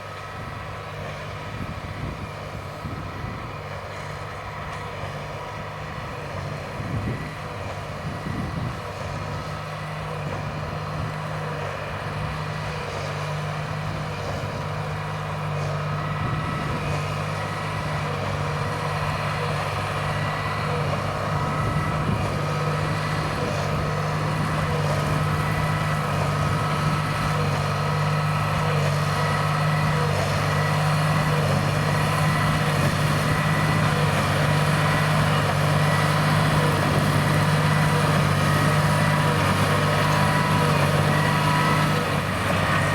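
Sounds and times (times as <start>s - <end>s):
baler machinery whine: 0.0s - 42.9s
tractor diesel engine drone: 0.0s - 42.9s.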